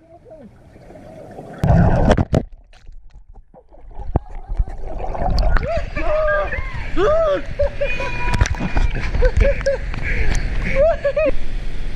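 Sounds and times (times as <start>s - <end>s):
water splashing and sloshing: 0.2s - 10.8s.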